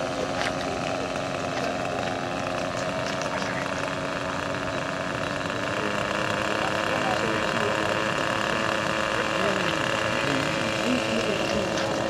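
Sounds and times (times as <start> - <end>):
model helicopter engine running: 0.0 - 12.0.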